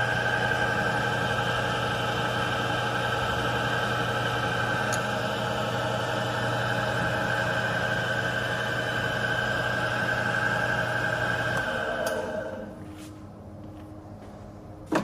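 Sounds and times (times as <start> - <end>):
mill-drill motor hum and whine: 0.0 - 12.8.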